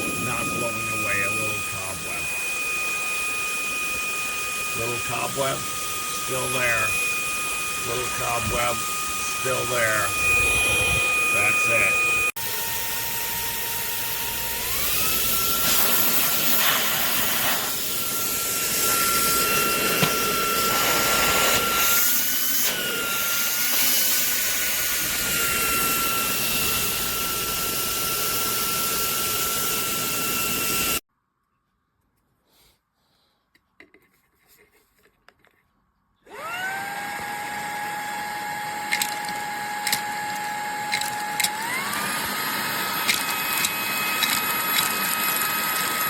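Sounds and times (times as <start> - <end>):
handheld vacuum motor whining: 0.0 - 31.0, 36.3 - 46.0.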